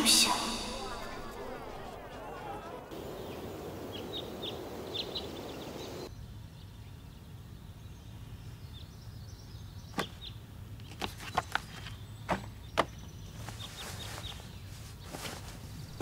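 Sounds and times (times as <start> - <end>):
birds chirping: 0.0 - 6.1, 7.9 - 16.0
outdoor ambience: 0.0 - 16.0.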